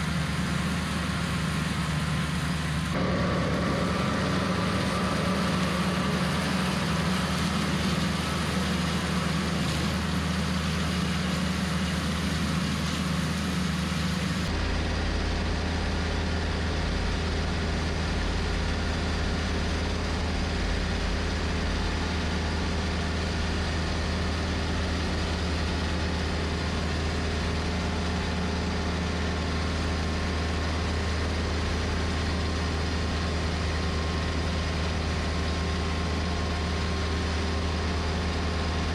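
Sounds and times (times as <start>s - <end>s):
mower blades cutting grass: 0.0s - 38.9s
tractor diesel engine running: 0.0s - 38.9s.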